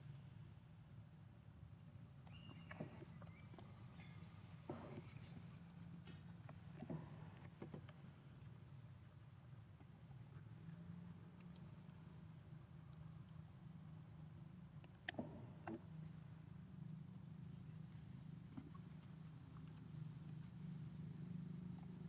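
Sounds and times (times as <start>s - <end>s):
insect chirping: 0.4s - 22.0s.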